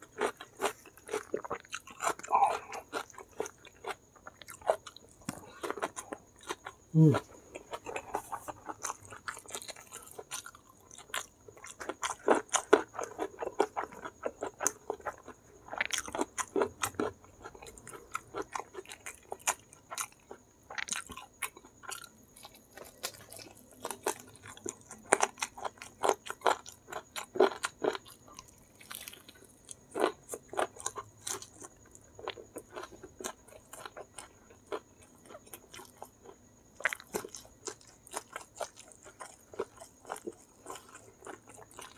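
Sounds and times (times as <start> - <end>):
crunchy fried chicken chewing: 0.0 - 41.9.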